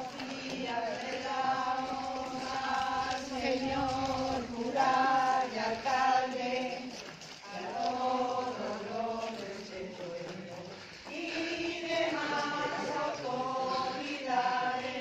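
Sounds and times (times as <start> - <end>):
women singing a hymn: 0.0 - 15.0.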